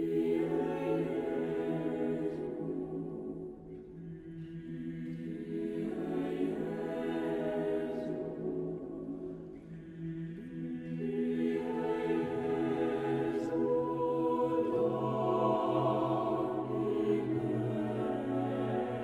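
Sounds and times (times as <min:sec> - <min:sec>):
slow choral music: 0:00.0 - 0:19.0.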